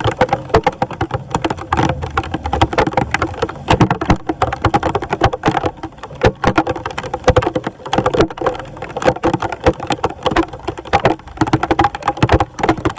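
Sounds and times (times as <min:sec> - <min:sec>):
debris clicking and knocking: 0:00.0 - 0:12.9
water splashing: 0:00.0 - 0:12.9.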